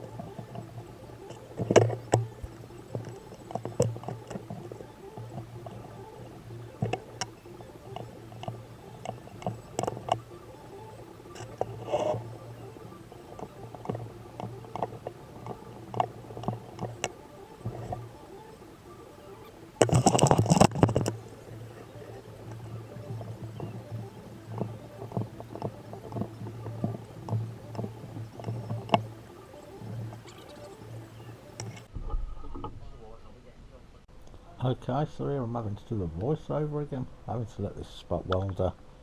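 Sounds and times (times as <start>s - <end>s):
steady electrical hum: 0.0s - 31.9s.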